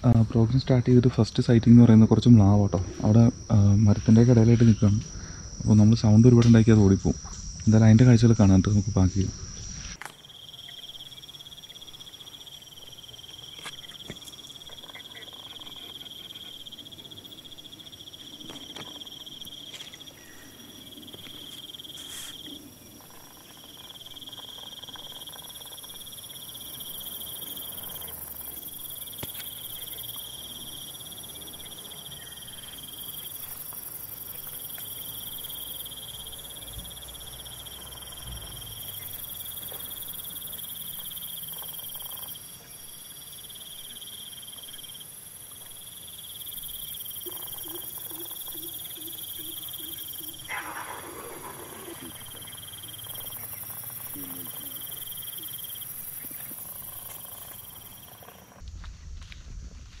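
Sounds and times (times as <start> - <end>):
insects hissing: 0.0 - 58.7
insects trilling: 0.0 - 58.9.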